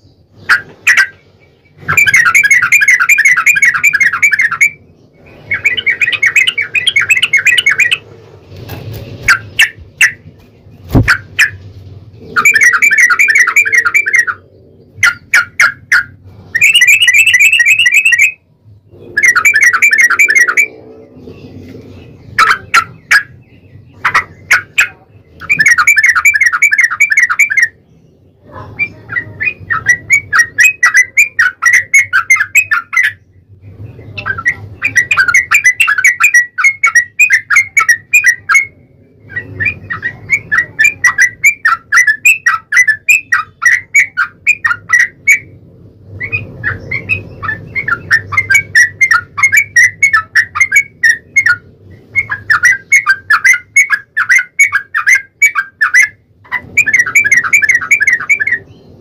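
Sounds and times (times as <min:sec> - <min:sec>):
bulbuls trilling: 0:00.0 - 0:59.0.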